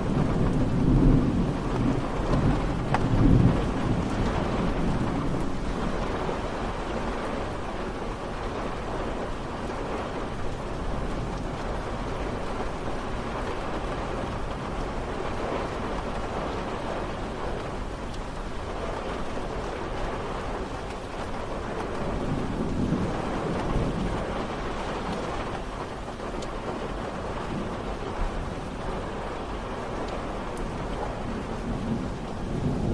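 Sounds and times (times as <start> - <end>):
low thunder rumble: 0.0 - 32.9
steady rain hiss: 0.0 - 32.9.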